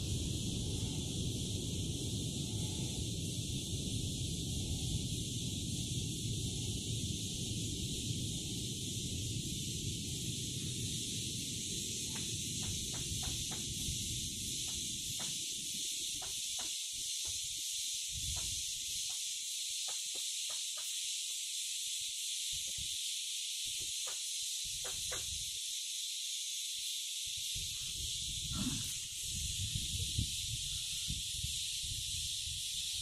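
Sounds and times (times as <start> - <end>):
insects chirping chorus: 0.0 - 33.0.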